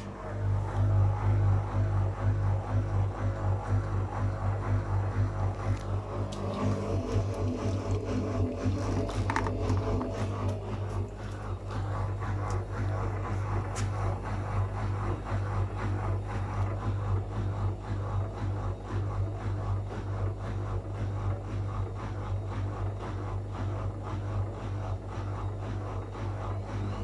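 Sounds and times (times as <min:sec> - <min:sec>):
drum rumbling: 0:00.0 - 0:27.0
washing machine motor hum: 0:00.0 - 0:27.0.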